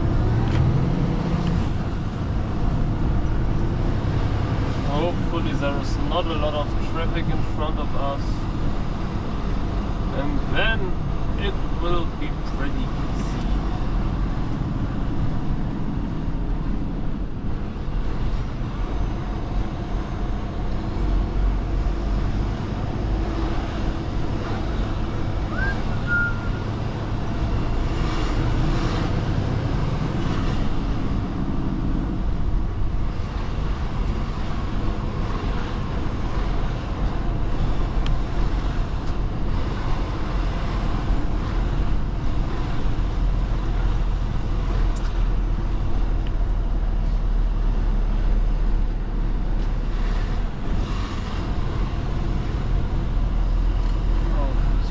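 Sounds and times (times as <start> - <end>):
truck diesel engine rumbling: 0.0 - 54.9.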